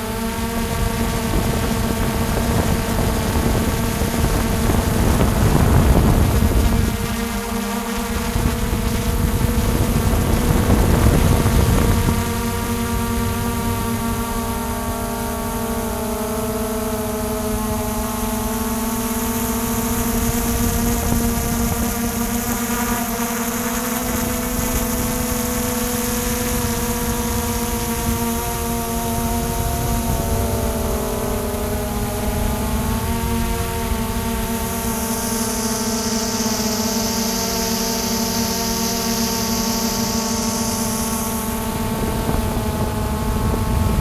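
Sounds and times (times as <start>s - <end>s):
wind noise on microphone: 0.0s - 36.9s, 37.7s - 44.0s
drone propellers humming: 0.0s - 44.0s.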